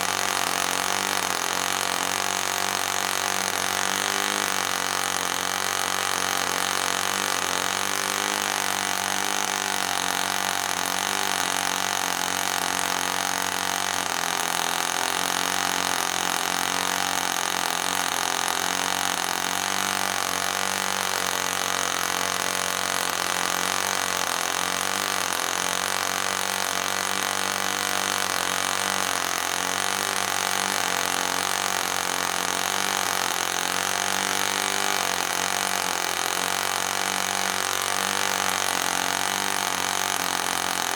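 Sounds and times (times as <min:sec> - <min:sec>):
model engine high-pitched buzz: 0:00.0 - 0:40.9.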